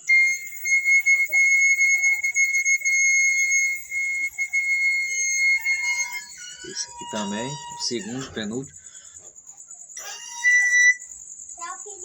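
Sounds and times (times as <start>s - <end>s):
high pan flute note: 0.0s - 8.6s, 10.0s - 11.1s.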